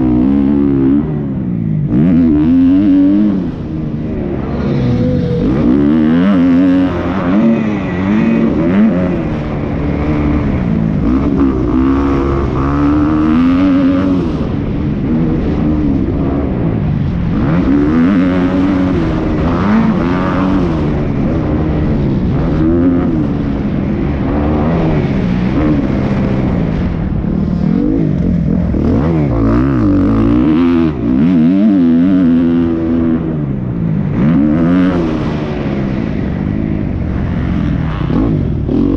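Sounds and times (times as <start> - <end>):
dirt bike engine revving: 0.0 - 33.4, 34.0 - 38.9.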